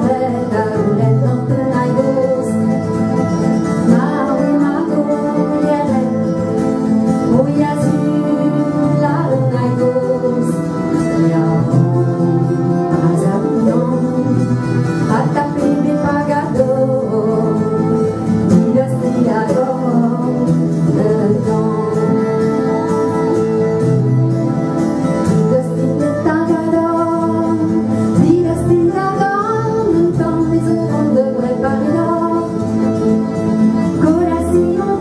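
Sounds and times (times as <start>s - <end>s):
acoustic guitar: 0.0s - 35.0s
plucked strings: 0.0s - 35.0s
woman singing: 0.0s - 35.0s.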